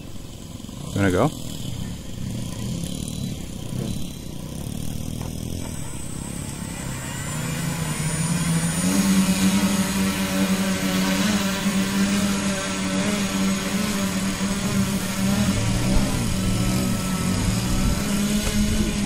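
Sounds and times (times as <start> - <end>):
drone motors and propellers buzzing: 0.0 - 19.0.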